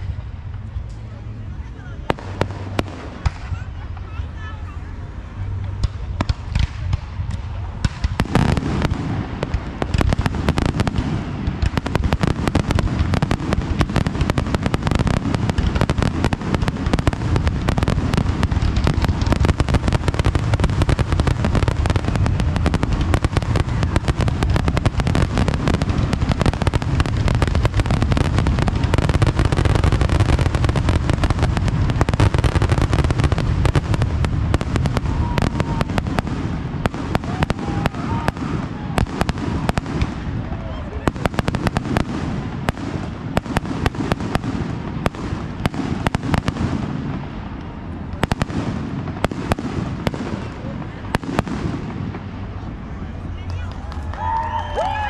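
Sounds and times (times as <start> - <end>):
distant firework bangs and crackles: 0.0 - 4.4, 5.0 - 55.0.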